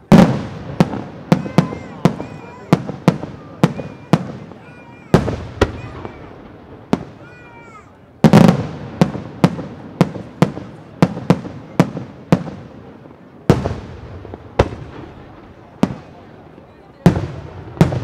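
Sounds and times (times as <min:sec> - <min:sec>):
fireworks bursting with echoes: 0:00.0 - 0:18.0.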